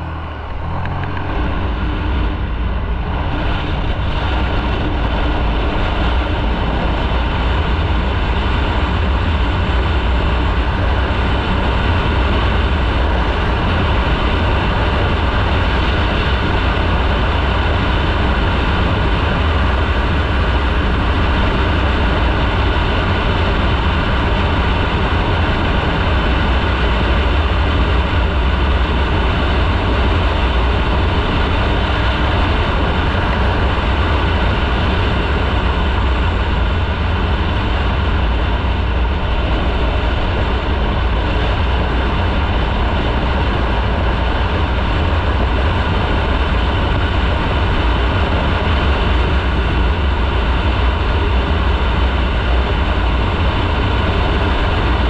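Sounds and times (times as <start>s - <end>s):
motorcycle engine: 0.0s - 53.4s
deep low rumble: 0.0s - 55.0s
road and wind noise: 0.0s - 55.0s.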